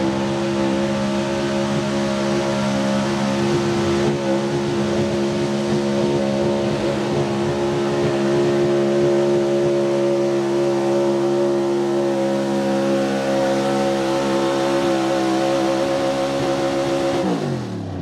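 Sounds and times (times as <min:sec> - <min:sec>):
tractor engine running loud: 0:00.0 - 0:18.0.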